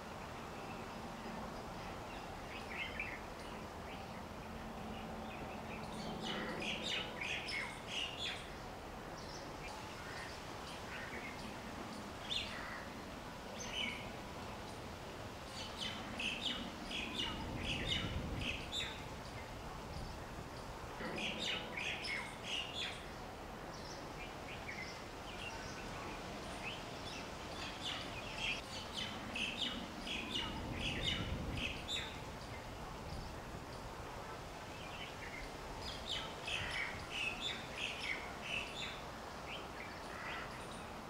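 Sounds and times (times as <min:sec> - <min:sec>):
birds chirping: 0:00.0 - 0:41.0
faint background hiss: 0:00.0 - 0:41.0.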